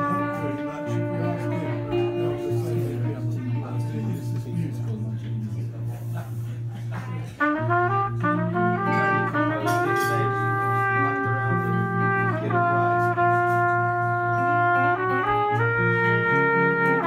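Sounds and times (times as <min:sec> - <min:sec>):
trumpet playing: 0:00.0 - 0:04.8, 0:07.3 - 0:17.0
guitar chords: 0:00.0 - 0:05.9, 0:07.1 - 0:17.0.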